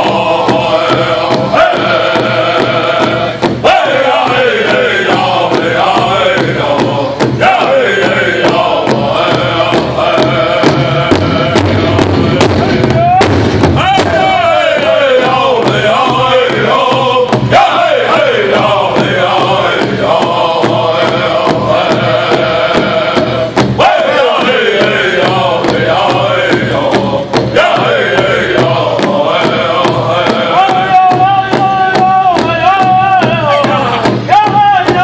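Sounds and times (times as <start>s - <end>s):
large bass drum beating: 0.0s - 35.0s
men singing chant in unison: 0.0s - 35.0s.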